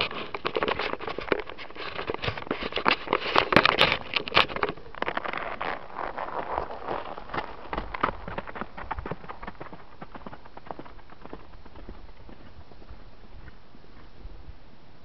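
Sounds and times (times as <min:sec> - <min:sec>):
horse hoofbeats on grass and dirt: 0:00.0 - 0:14.3.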